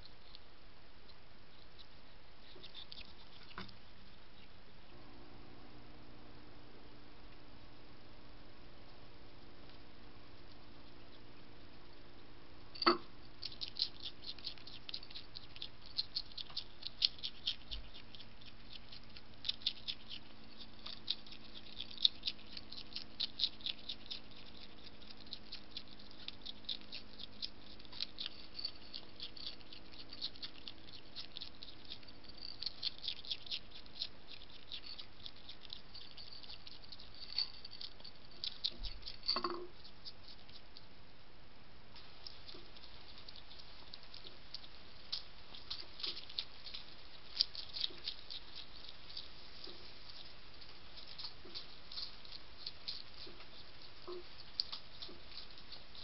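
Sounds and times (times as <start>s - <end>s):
hedgehog crunching dry food: 1.1s - 4.6s, 9.4s - 41.0s, 42.0s - 56.0s.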